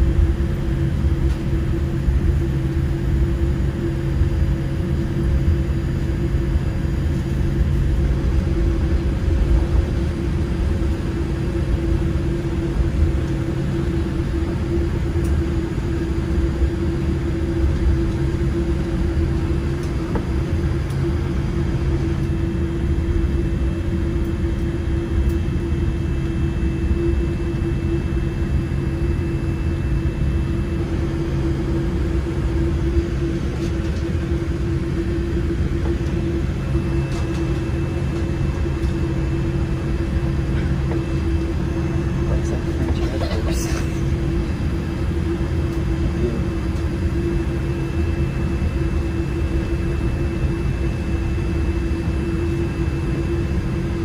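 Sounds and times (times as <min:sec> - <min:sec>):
constant cabin hum: 0:00.0 - 0:54.0
jet engine and airflow rumble: 0:00.0 - 0:54.0.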